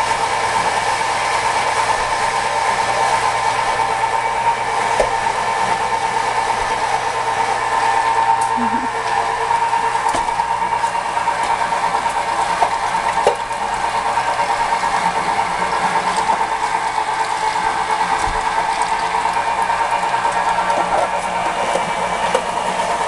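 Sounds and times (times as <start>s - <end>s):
tomato milling machine motor humming: 0.0s - 23.0s.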